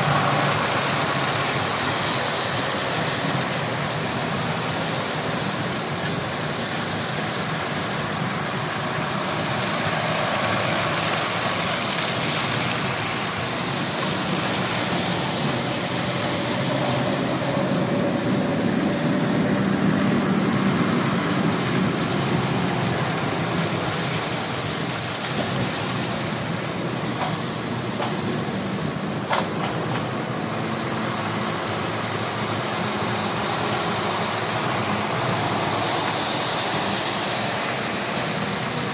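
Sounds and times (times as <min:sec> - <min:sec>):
lorry diesel engines rumbling: 0:00.0 - 0:38.9
tyres hissing on wet road: 0:00.0 - 0:38.9.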